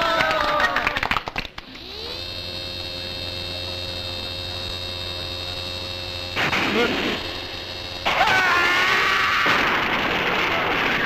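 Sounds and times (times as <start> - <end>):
low hum: 1.5 - 11.0.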